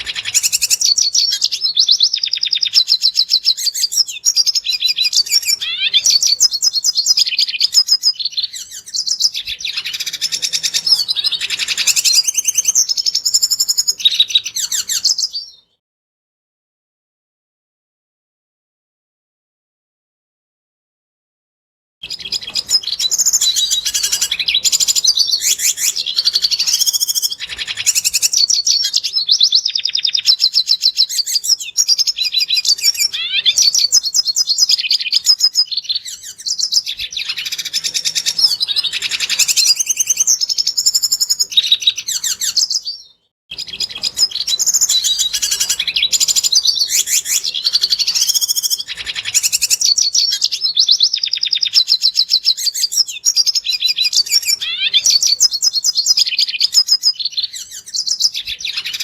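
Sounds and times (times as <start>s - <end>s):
bird twittering song: 0.0s - 15.8s, 22.0s - 59.0s.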